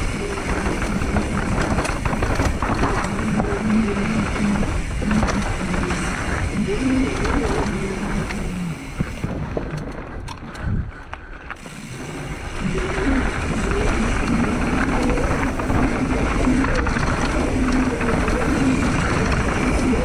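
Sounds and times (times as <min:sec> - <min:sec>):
bicycle freewheel ratchet ticking: 0:00.0 - 0:10.8, 0:11.5 - 0:20.0
bike rumbling over rough ground: 0:00.0 - 0:20.0.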